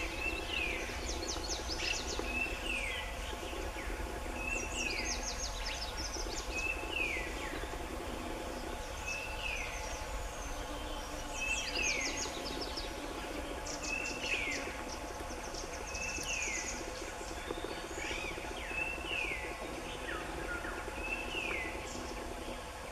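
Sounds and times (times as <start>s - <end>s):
insect buzz: 0.0s - 22.9s.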